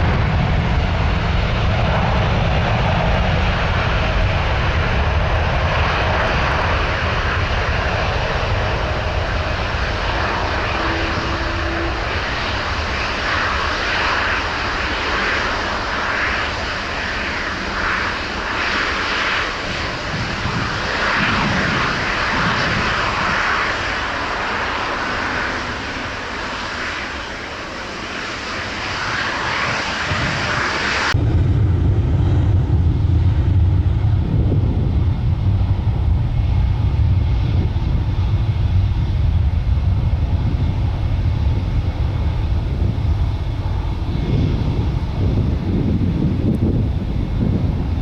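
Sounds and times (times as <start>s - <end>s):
jet engine hissing roar: 0.0s - 48.0s
jet engine low rumble: 0.0s - 48.0s.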